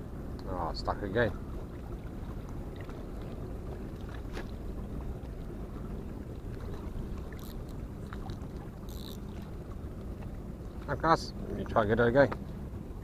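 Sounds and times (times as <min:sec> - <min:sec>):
water: 0:00.0 - 0:13.0.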